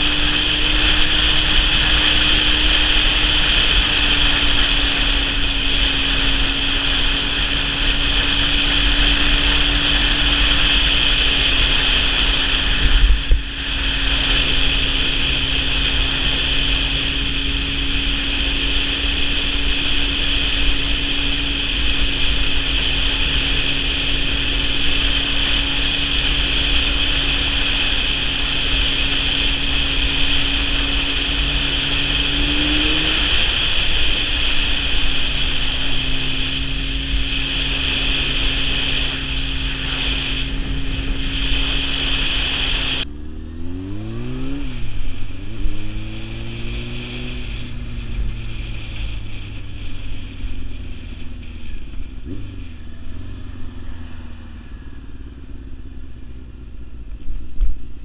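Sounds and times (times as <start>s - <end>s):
wind noise on microphone: 0.0s - 53.1s
motorcycle engine cruising: 0.0s - 58.0s
motorcycle revving and shifting: 0.0s - 58.0s.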